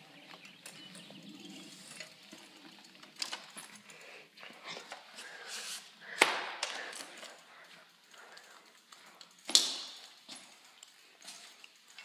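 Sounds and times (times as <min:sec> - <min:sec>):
bicycle rattling: 0:00.0 - 0:12.0.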